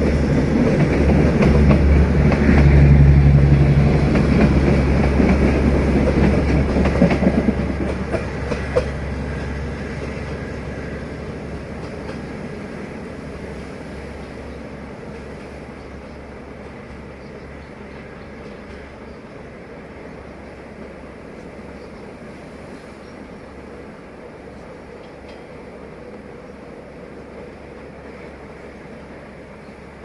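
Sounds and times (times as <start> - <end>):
locomotive engine hum: 0.0 - 30.0.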